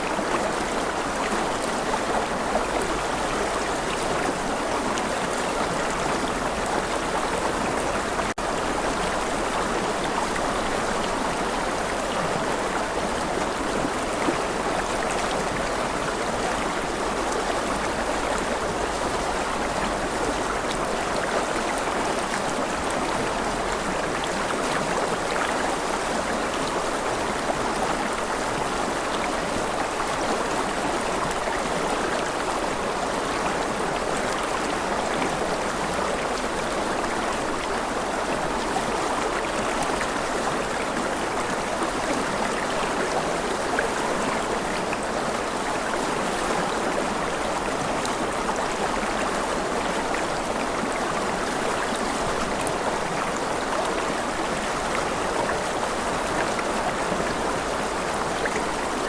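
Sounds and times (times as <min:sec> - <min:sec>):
stream water running: 0:00.0 - 0:59.0.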